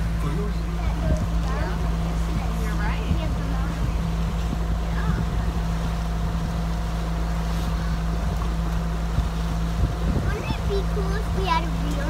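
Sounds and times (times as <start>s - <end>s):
boat engine droning: 0.0s - 12.0s
water washing along hull: 0.0s - 12.0s
wind on microphone: 0.0s - 12.0s.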